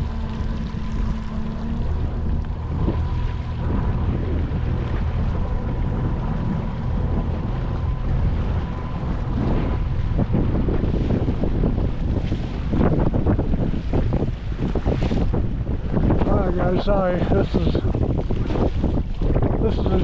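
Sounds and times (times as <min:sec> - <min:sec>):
water slapping boat hull: 0:00.0 - 0:20.0
wind buffeting microphone: 0:00.0 - 0:20.0.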